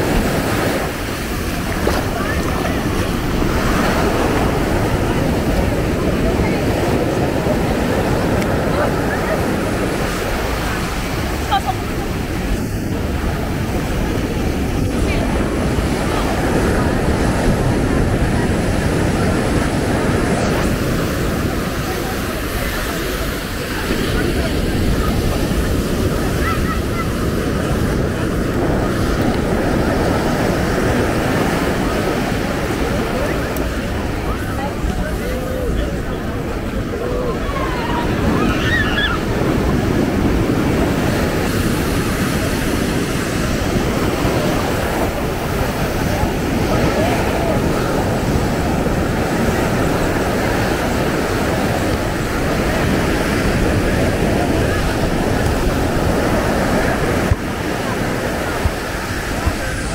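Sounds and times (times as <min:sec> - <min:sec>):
murmur of voices: 0:00.0 - 0:59.9
ocean surf breaking: 0:00.0 - 0:59.9
wind rumbling on microphone: 0:00.0 - 0:59.9.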